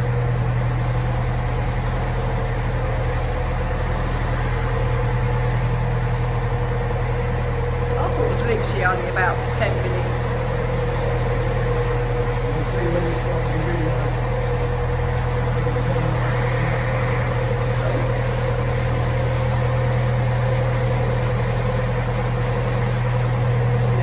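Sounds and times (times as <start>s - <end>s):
boat diesel engine running: 0.0s - 24.0s.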